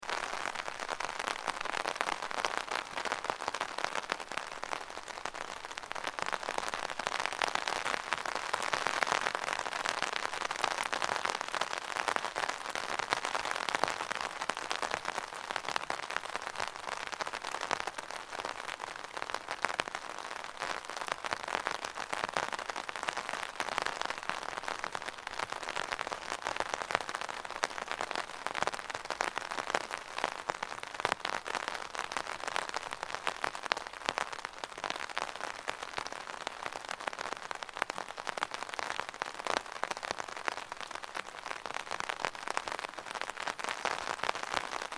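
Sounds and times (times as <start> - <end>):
rain pattering on an umbrella: 0.0 - 44.9.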